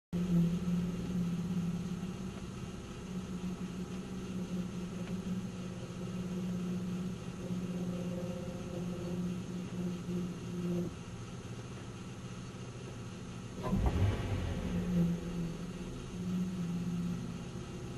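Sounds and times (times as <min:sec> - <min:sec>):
car engine idling with droning hum: 0:00.1 - 0:17.9.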